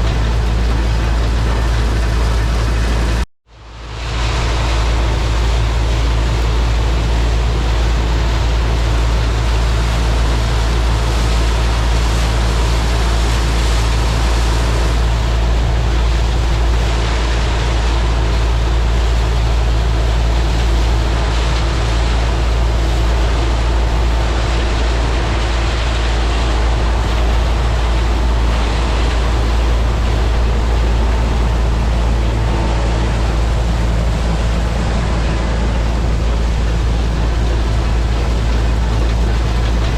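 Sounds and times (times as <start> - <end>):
combine harvester engine hum: 0.0 - 39.9
machine rushing noise: 0.0 - 39.9.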